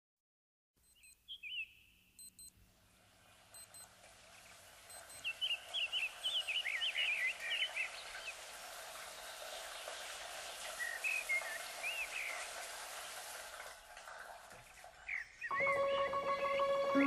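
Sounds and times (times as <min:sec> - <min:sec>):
outdoor ambience: 0:00.8 - 0:17.0
songbirds chirping: 0:00.9 - 0:13.2, 0:14.6 - 0:17.0.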